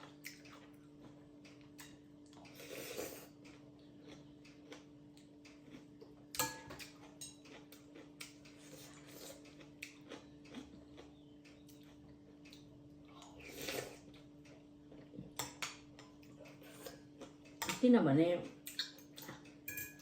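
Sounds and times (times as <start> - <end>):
chewing and mouth clicks: 0.0 - 17.7, 18.6 - 19.6
faint steady hum: 0.0 - 20.0.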